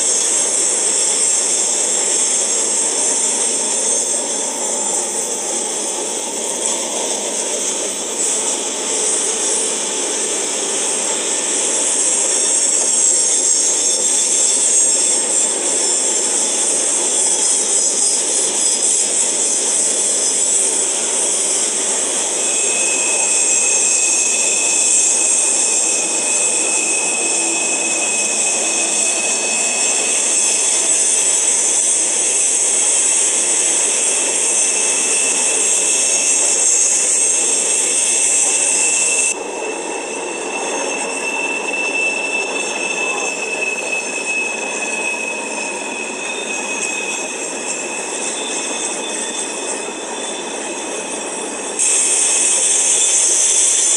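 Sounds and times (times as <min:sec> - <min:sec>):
high wheel squeal: 0:00.0 - 0:53.9
train wheels rumbling on rail: 0:00.0 - 0:53.9.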